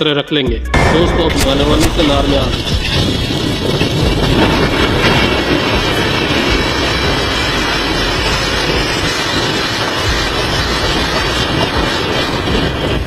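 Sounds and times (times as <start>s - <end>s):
fireworks hissing sparks: 1.4s - 13.0s.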